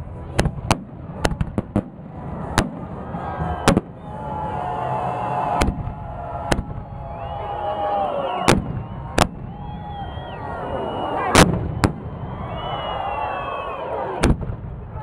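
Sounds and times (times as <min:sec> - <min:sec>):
fireworks bangs: 0:00.2 - 0:15.0.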